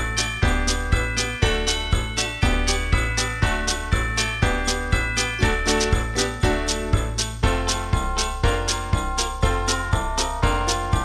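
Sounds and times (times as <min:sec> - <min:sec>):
christmas background music: 0:00.0 - 0:11.0
sleigh bells ringing: 0:00.0 - 0:11.0.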